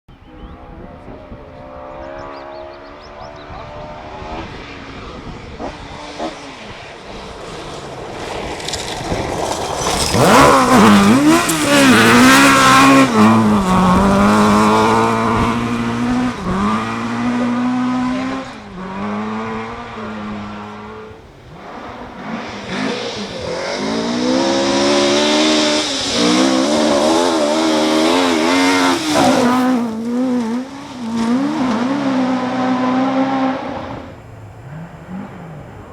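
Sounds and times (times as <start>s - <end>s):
rally car engines revving: 0.1s - 35.9s.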